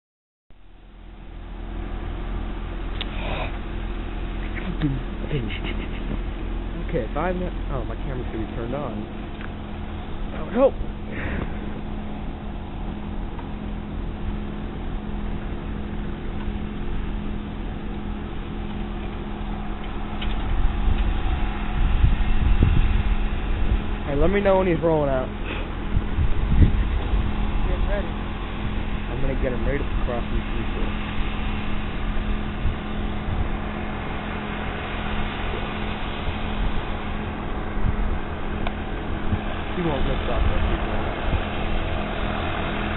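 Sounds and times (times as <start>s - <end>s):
distant propeller plane engine: 0.6s - 42.9s
wind rumble on microphone: 1.2s - 42.9s.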